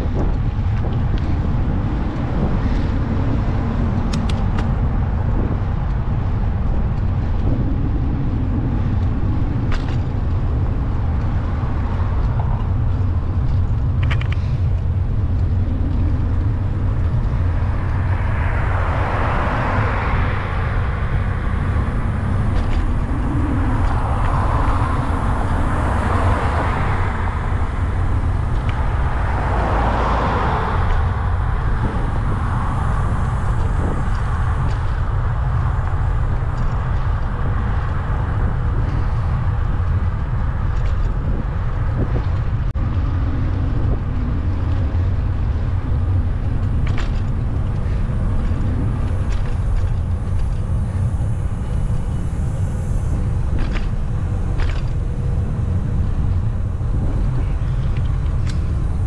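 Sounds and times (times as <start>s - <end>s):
vehicles passing: 0.0s - 59.0s
wind rumble on microphone: 0.0s - 59.0s.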